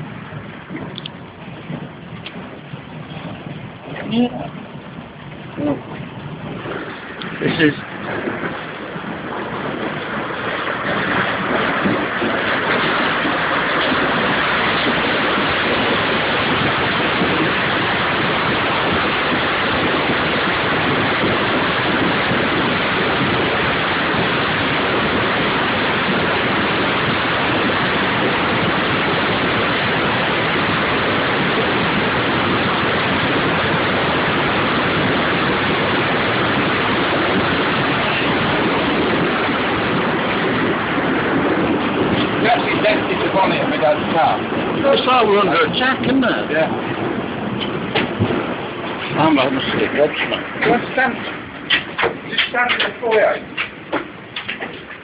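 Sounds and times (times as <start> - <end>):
hail and heavy rain: 0.0 - 55.0.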